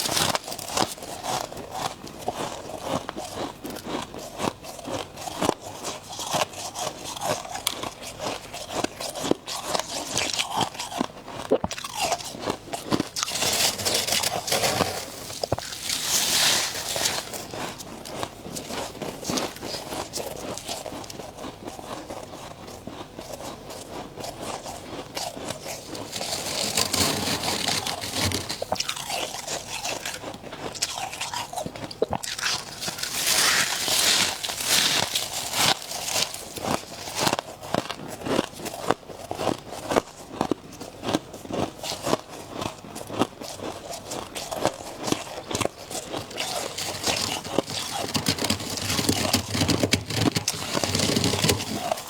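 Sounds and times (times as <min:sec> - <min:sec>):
person chewing crunchy ice: 0:00.0 - 0:52.0.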